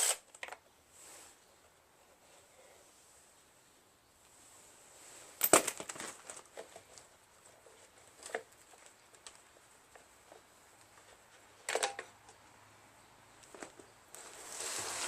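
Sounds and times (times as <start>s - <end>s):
rustling and scraping: 0.4s - 3.4s, 4.3s - 12.4s, 13.4s - 15.0s.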